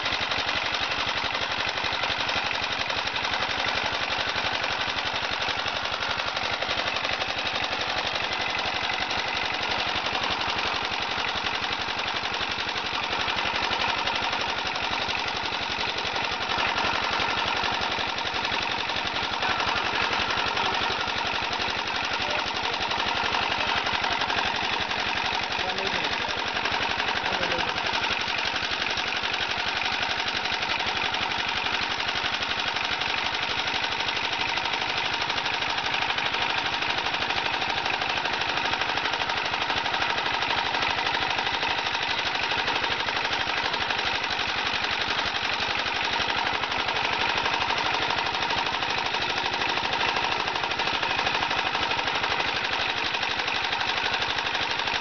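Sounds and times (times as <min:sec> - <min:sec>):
screw extruder rapid clatter: 0:00.0 - 0:55.0.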